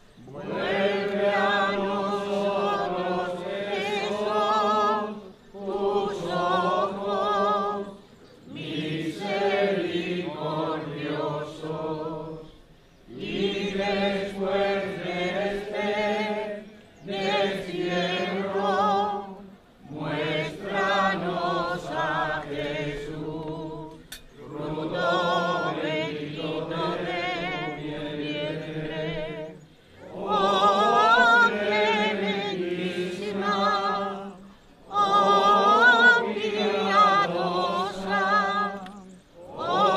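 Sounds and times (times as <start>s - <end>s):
voices singing a hymn: 0.0s - 39.9s.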